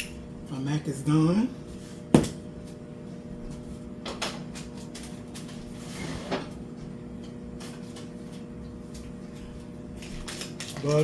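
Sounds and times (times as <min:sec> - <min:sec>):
appliance hum: 0:00.0 - 0:11.0.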